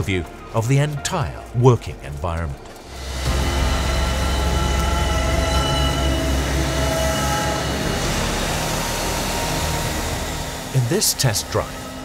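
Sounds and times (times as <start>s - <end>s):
steady whining tones: 0.0s - 12.0s
tractor low rumble: 0.0s - 12.0s.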